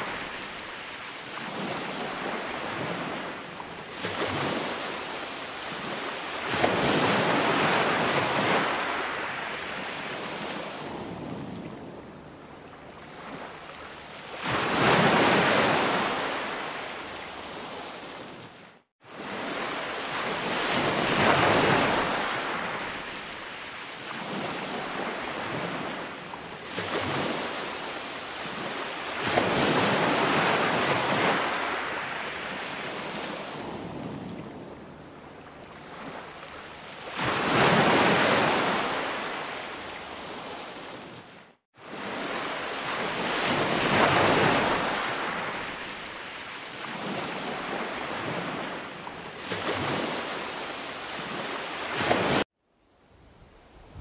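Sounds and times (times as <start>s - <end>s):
waves washing up a beach: 0.0s - 52.5s.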